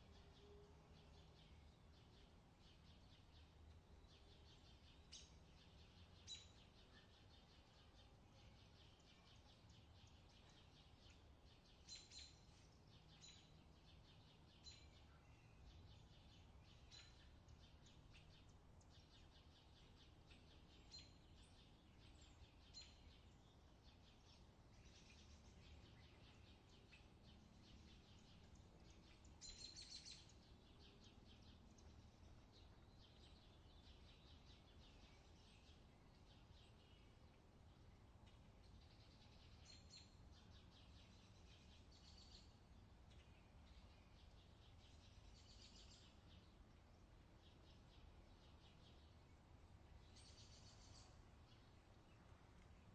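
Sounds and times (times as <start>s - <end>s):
bird chirps: 0.0s - 46.7s, 50.0s - 51.8s.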